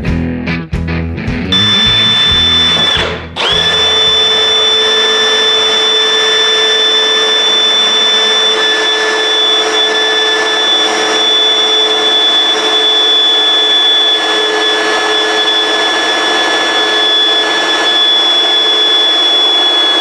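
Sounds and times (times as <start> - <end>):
power drill boring through plastic: 1.6 - 20.0.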